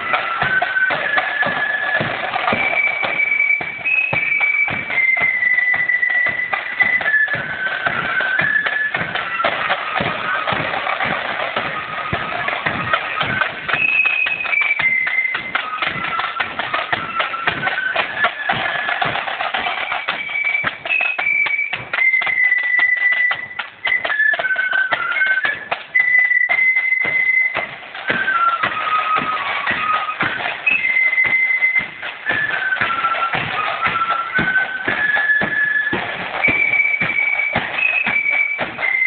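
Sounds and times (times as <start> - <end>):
flute melody: 0.0 - 39.0
side drums rolling: 0.0 - 39.0.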